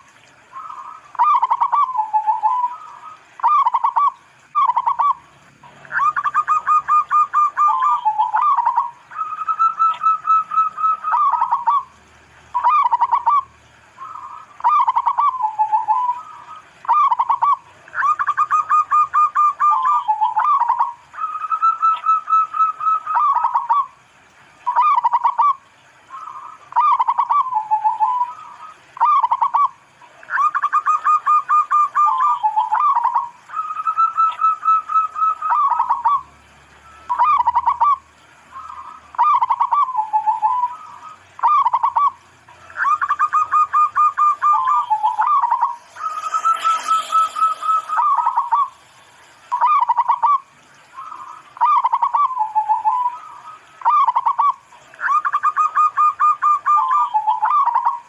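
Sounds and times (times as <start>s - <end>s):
dove cooing: 0.0s - 24.0s, 24.6s - 36.2s, 36.8s - 58.0s.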